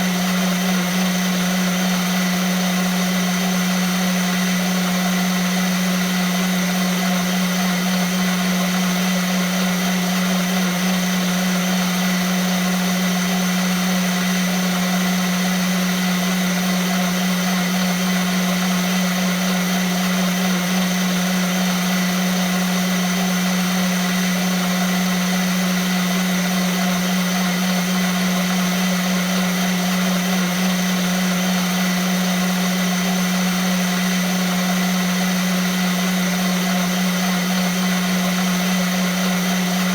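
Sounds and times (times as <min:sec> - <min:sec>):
blender motor running: 0:00.0 - 0:39.9.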